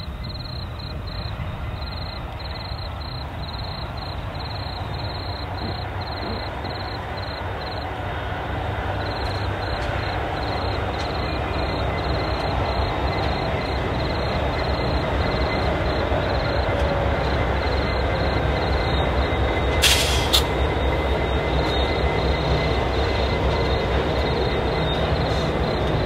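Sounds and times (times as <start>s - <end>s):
diesel locomotives running: 0.0s - 26.0s
freight train rumbling past: 0.0s - 26.0s.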